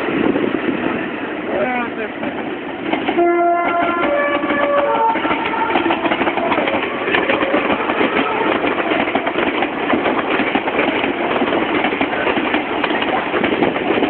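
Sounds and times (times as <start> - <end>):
train wheels clattering on rails: 1.6 - 14.0.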